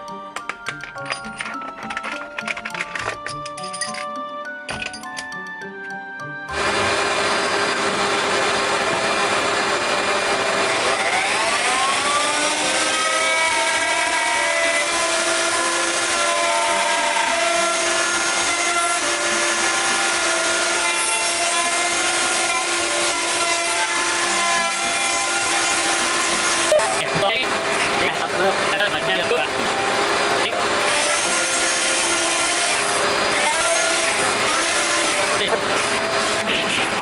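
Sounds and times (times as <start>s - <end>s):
electric router cutting wood: 6.5s - 37.0s.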